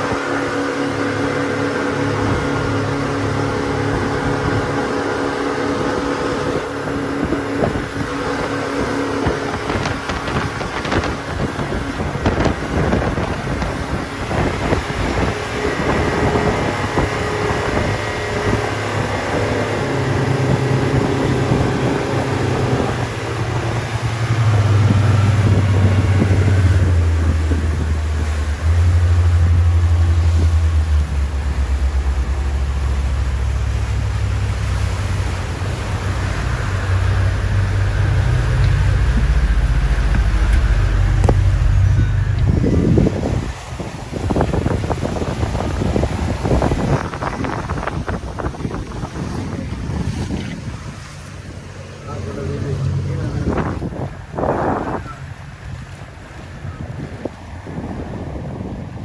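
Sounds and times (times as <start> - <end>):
motorboat engine running: 0.0 - 59.0
wind and water rushing: 0.0 - 59.0.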